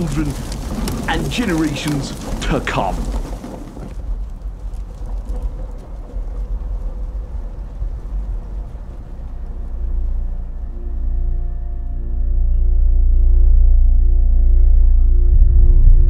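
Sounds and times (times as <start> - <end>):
deep low rumbling: 0.0 - 16.0.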